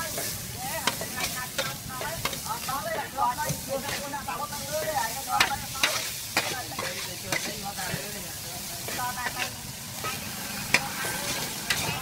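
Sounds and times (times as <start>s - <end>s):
frying sizzle: 0.0s - 12.0s
metal spatulas scraping a pan: 0.0s - 12.0s.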